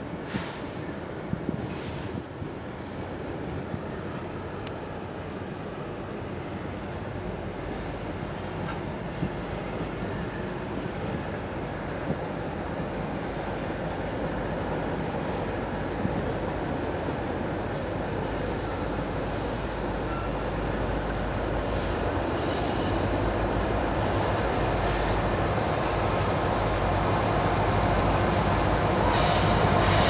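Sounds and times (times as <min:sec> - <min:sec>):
diesel locomotive engines: 0:00.0 - 0:30.0
train wheels rumbling: 0:00.0 - 0:30.0.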